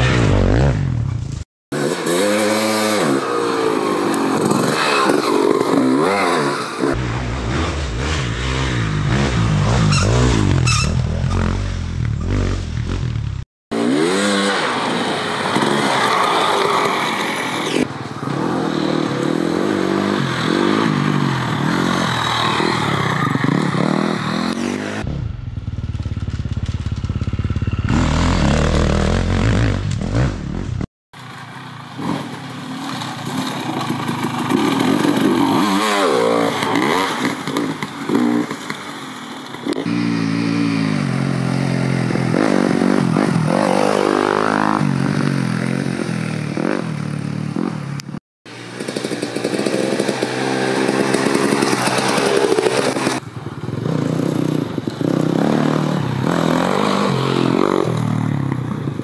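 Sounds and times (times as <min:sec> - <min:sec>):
dirt bike engines revving: 0:00.0 - 0:25.1, 0:26.2 - 0:59.0.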